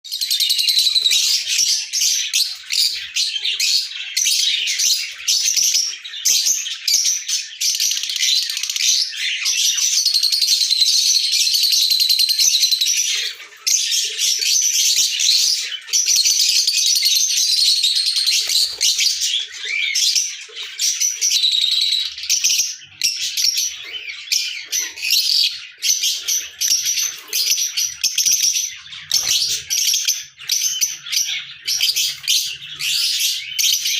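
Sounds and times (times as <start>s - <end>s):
lovebirds chirping: 0.1s - 33.9s.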